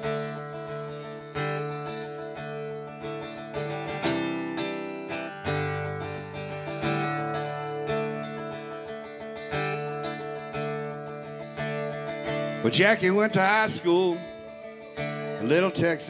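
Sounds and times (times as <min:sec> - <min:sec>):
acoustic guitar strumming: 0:00.0 - 0:16.0
bass guitar: 0:00.0 - 0:16.0
electric guitar: 0:00.0 - 0:16.0.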